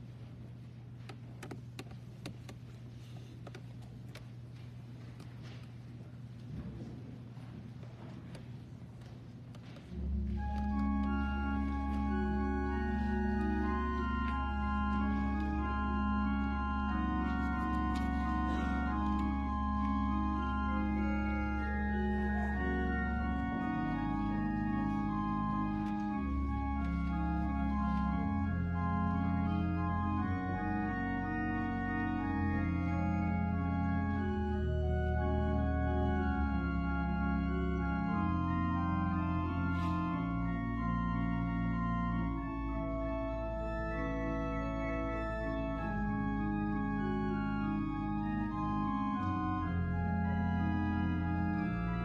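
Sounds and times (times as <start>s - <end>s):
church organ chords: 9.6s - 52.0s.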